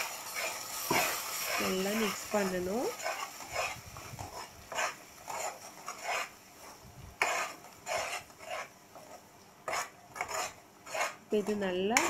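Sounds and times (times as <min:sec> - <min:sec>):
spatula scraping a pan: 0:00.0 - 0:12.0.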